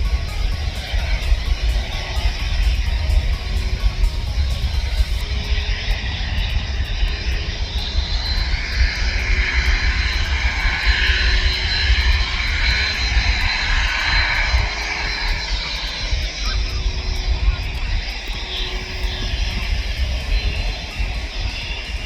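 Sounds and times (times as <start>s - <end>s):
jet engines rushing: 0.0s - 22.0s
low rumble: 0.0s - 22.0s
thin high whine: 0.0s - 22.0s.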